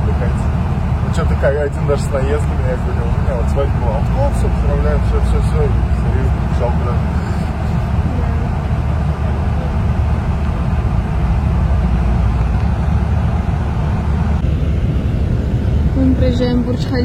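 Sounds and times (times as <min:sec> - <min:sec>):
bus road and engine rumble: 0:00.0 - 0:17.0.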